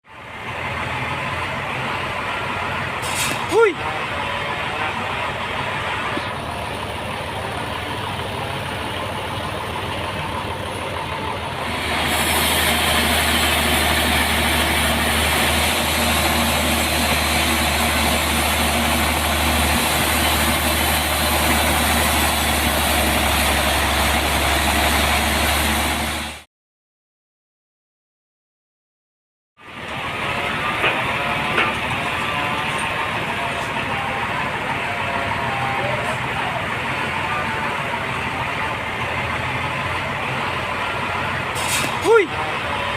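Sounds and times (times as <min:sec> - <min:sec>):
large engine running: 0:00.0 - 0:26.4, 0:29.6 - 0:42.9.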